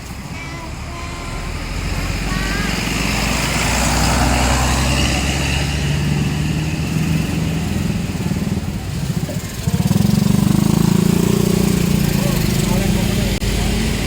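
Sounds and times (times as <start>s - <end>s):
bus engine droning: 0.0s - 14.0s.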